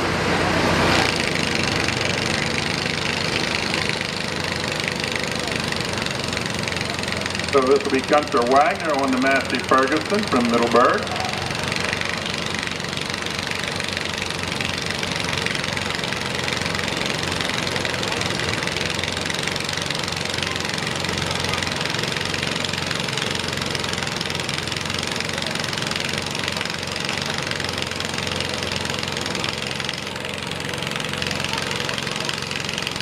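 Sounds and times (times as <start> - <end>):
tractor engine under load: 0.0 - 33.0.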